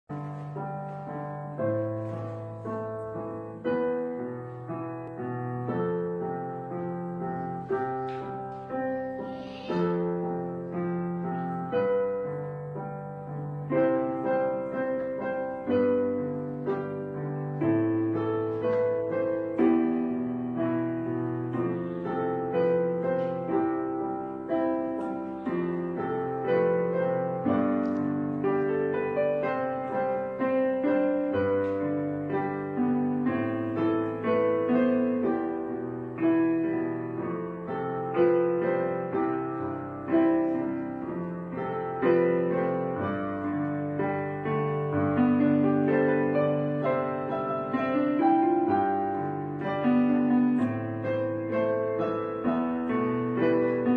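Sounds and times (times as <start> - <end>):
gentle piano music: 0.0 - 53.9.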